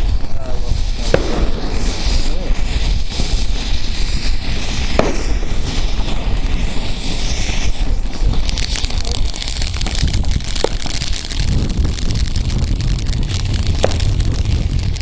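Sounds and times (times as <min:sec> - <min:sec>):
firework crackling and popping: 0:00.0 - 0:15.0
wind rumbling on microphone: 0:00.0 - 0:15.0.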